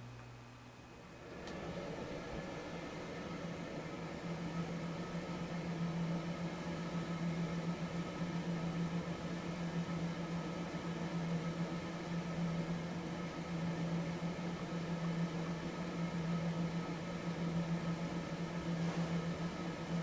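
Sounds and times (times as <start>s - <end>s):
small fan motor humming: 0.0s - 20.0s.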